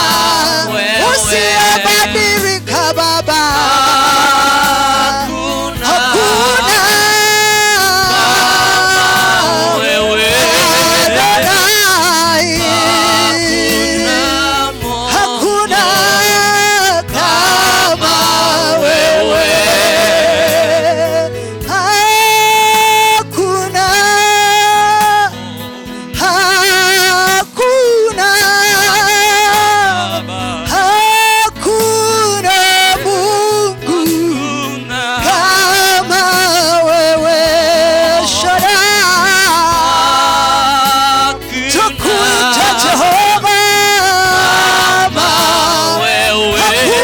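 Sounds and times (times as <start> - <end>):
instrumental accompaniment: 0.0 - 47.0
person singing with vibrato: 0.0 - 47.0.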